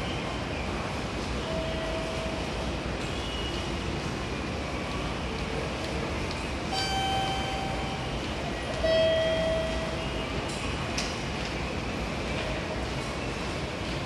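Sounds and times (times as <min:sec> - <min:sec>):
station hum and noise: 0:00.0 - 0:14.0.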